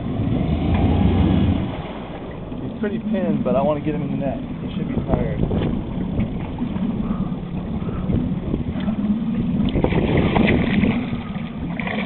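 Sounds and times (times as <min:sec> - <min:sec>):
boat motor humming: 0:00.0 - 0:12.0
wind buffeting microphone: 0:00.0 - 0:12.0.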